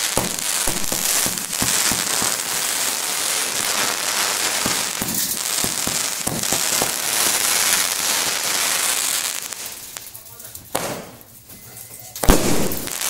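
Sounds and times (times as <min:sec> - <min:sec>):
firework fountain hissing: 0:00.0 - 0:11.6, 0:12.2 - 0:13.0.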